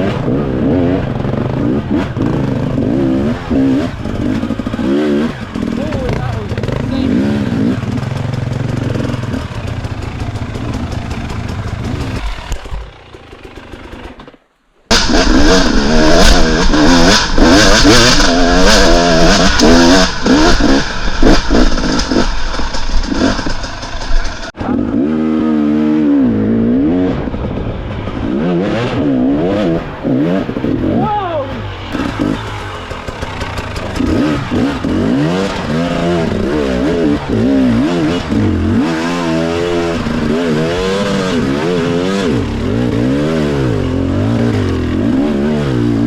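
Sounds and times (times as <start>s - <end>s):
dirt bike engines revving: 0.0s - 14.3s, 14.9s - 46.0s.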